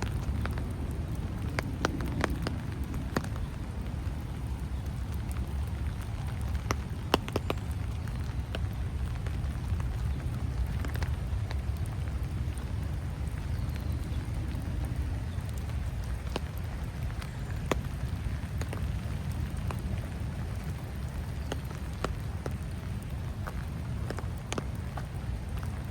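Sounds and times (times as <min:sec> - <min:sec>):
light rain falling: 0:00.0 - 0:25.9
sharp water drips: 0:00.0 - 0:25.9.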